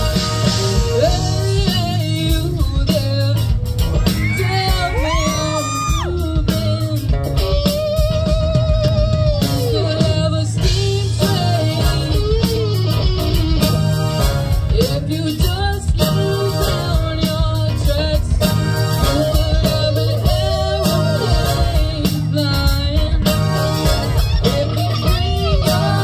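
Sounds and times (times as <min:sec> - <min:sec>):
bass guitar: 0:00.0 - 0:26.0
drums: 0:00.0 - 0:26.0
electric guitar: 0:00.0 - 0:26.0
woman singing: 0:01.0 - 0:13.7, 0:14.7 - 0:23.6, 0:24.4 - 0:26.0.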